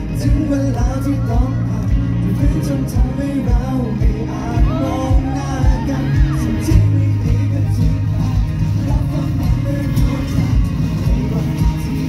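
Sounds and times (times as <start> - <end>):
live pop-rock band playing: 0.0 - 12.0.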